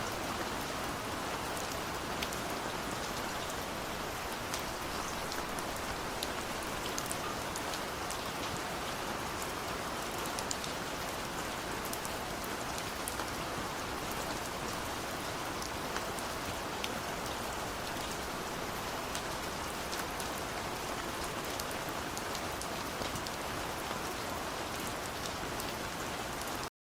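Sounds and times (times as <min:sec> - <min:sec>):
steady rain falling: 0:00.0 - 0:26.7.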